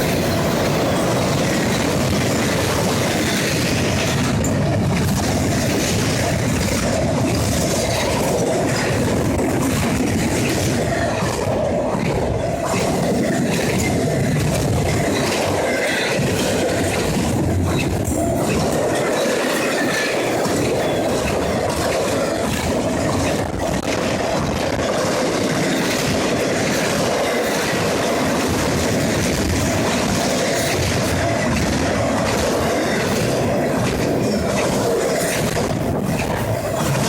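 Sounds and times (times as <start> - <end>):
clickety-clack over rail joints: 0.0 - 37.0
train wheel-on-rail noise: 0.0 - 37.0.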